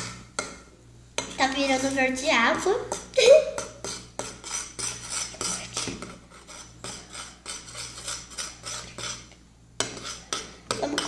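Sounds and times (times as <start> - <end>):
utensil stirring slime: 0.0 - 11.0.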